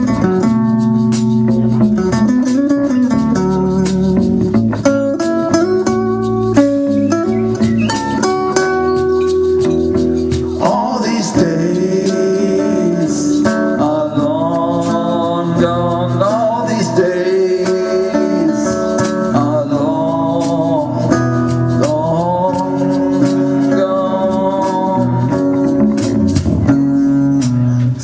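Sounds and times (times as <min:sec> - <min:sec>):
acoustic blues band playing: 0:00.0 - 0:28.0
bending lead guitar notes: 0:00.0 - 0:28.0.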